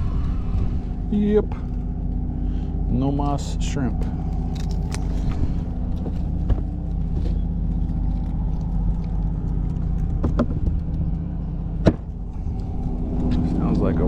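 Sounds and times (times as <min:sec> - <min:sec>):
steady engine drone: 0:00.0 - 0:14.0.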